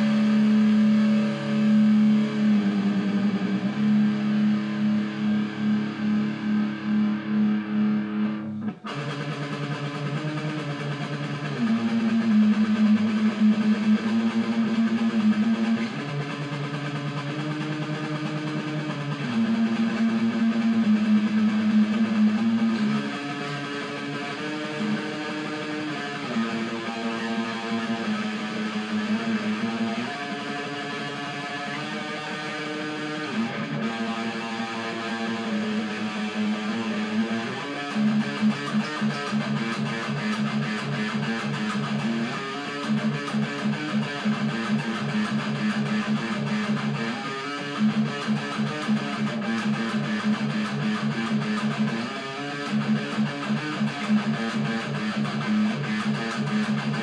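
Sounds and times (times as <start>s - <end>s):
electric guitar chords: 0.0s - 57.0s.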